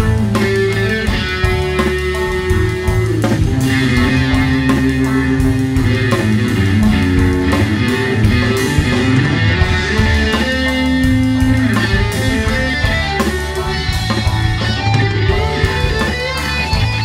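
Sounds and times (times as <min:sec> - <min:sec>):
electric guitar lead notes: 0:00.0 - 0:17.0
live rock band playing: 0:00.0 - 0:17.0.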